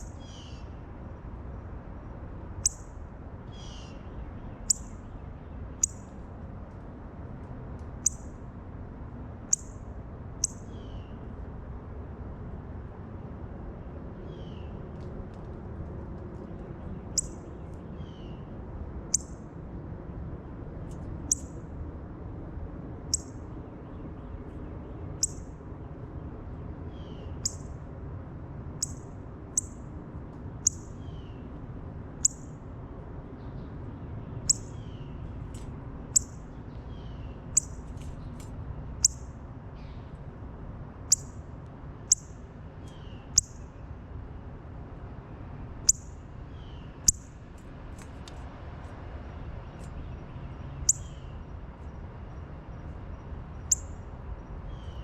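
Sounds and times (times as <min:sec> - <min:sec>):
low outdoor hum: 0:00.0 - 0:55.0.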